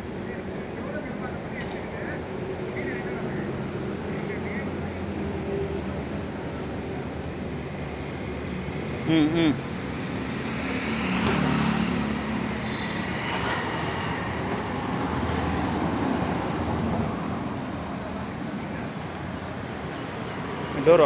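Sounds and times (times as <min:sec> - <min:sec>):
distant road traffic: 0:00.0 - 0:21.0.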